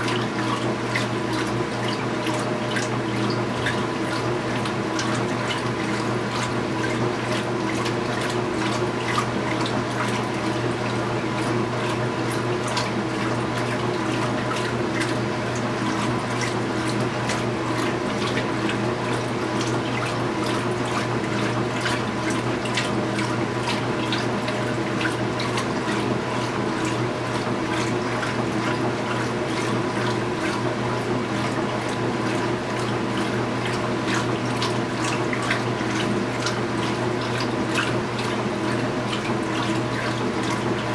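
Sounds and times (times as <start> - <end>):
washing machine motor hum: 0.0 - 40.9
water splashing in tub: 0.0 - 40.9.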